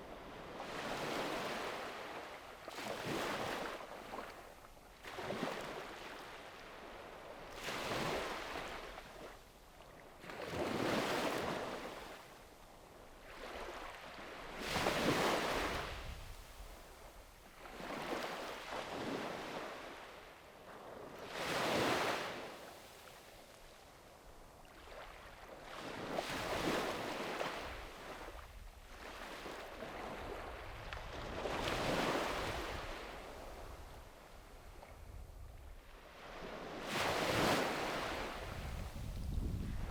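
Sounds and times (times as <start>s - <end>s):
sea waves breaking on a beach: 0.0s - 39.9s.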